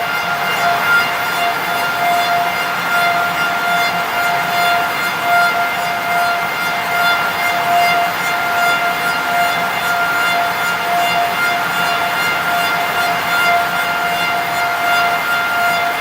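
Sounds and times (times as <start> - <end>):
lathe spindles whining: 0.0 - 16.0.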